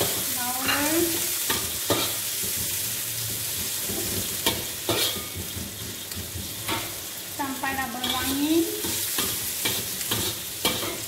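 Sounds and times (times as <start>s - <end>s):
garlic and onion sizzling in oil: 0.0s - 11.0s
spatula scraping a wok: 0.0s - 11.0s.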